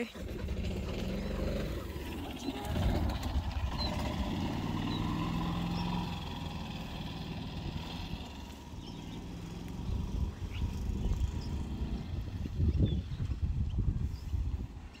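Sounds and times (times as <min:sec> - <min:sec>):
golf cart motor running: 0:00.0 - 0:14.9.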